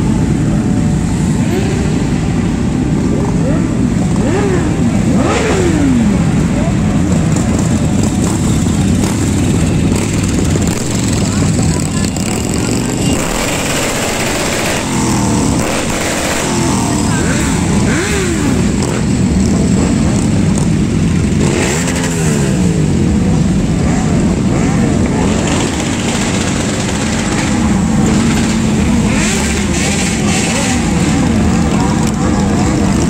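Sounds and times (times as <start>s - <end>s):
motorcycles revving and passing: 0.0s - 33.0s.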